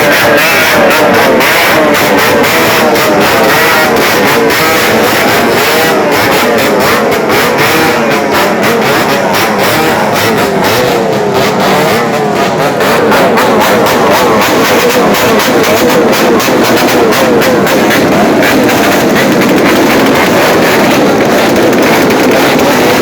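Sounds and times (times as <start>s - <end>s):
exhaust crackles: 0.0s - 23.0s
motorcycles revving: 0.0s - 23.0s.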